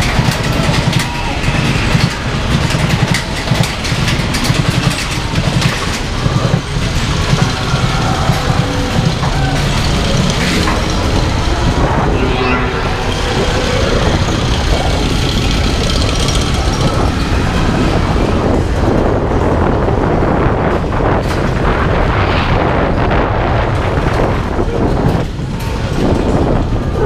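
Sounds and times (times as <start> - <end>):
roller coaster rumbling on track: 0.0 - 27.0.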